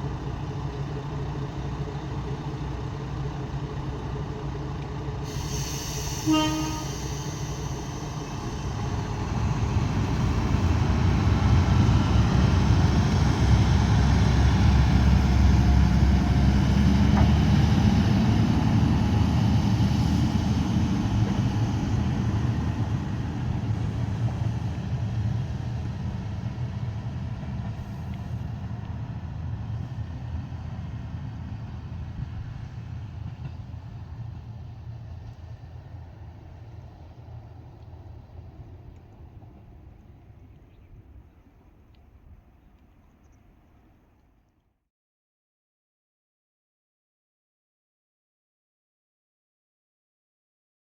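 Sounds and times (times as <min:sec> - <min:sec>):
diesel railcar passing: 0:00.0 - 0:44.2.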